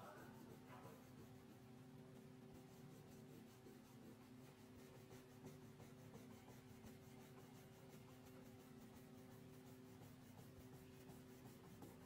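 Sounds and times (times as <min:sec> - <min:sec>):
crayon scratching on paper: 0:00.0 - 0:12.0
low electrical hum: 0:00.0 - 0:12.0.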